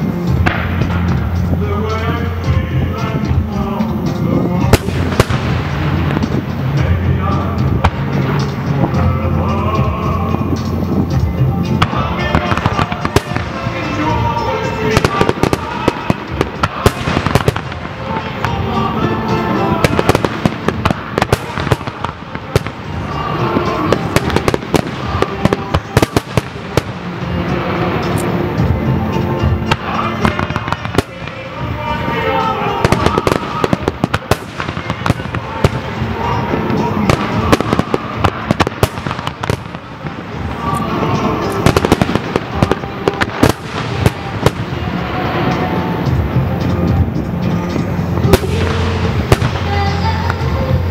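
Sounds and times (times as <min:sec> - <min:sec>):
fireworks bursting: 0:00.0 - 0:50.9.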